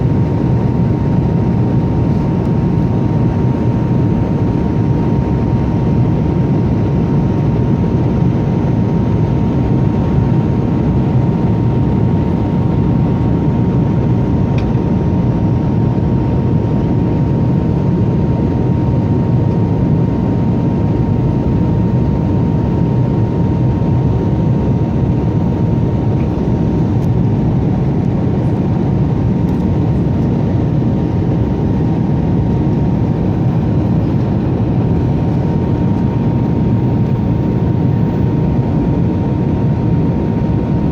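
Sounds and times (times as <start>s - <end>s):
constant high whine: 0.0s - 40.9s
engine and airflow rush: 0.0s - 40.9s.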